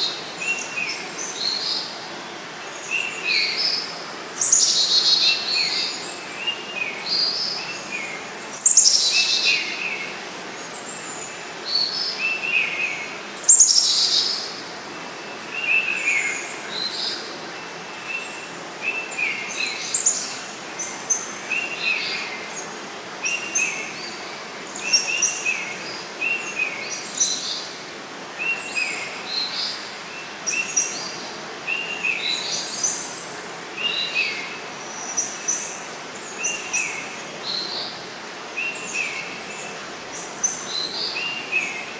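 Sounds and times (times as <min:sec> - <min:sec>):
flowing river water: 0:00.0 - 0:41.9.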